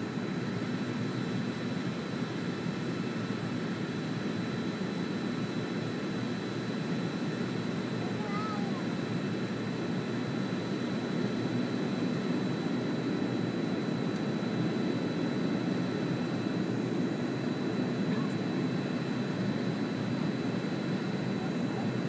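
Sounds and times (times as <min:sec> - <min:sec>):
jet engine and airflow noise: 0:00.0 - 0:22.0.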